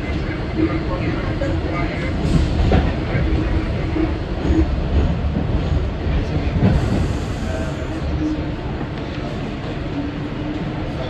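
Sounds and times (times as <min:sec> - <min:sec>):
subway train rumbling on track: 0:00.0 - 0:11.0.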